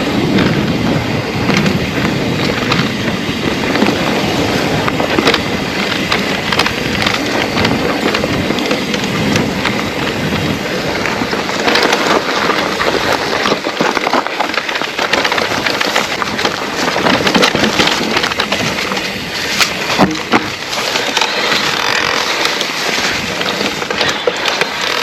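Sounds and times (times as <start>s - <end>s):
bike frame rattling: 0.0s - 25.0s
tyres crunching on trail: 0.0s - 25.0s.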